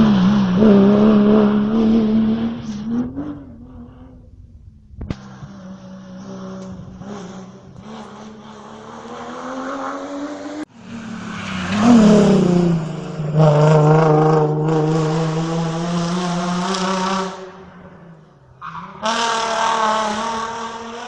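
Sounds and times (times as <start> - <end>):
loud rally car engine: 0.0 - 21.0
rally car engine revving: 0.0 - 21.0.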